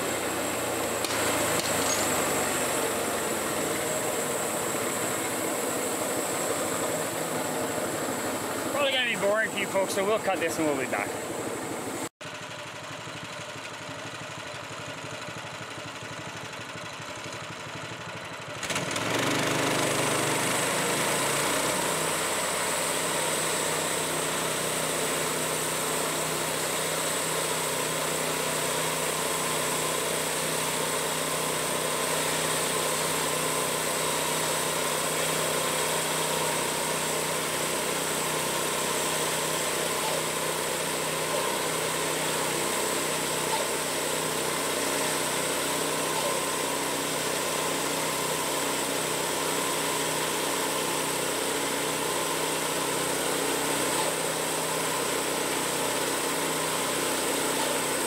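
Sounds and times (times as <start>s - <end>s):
small gas engine running: 0.0s - 58.0s.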